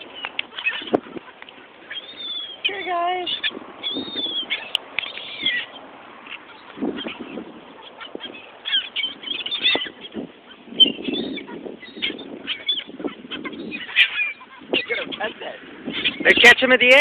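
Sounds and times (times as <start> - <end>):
birds honking: 0.0 - 17.0.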